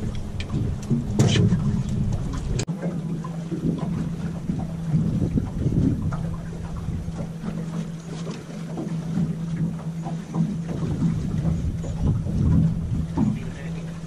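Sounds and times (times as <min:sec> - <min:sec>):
boat motor humming: 0:00.0 - 0:14.0
water slapping against metal hull: 0:00.0 - 0:14.0.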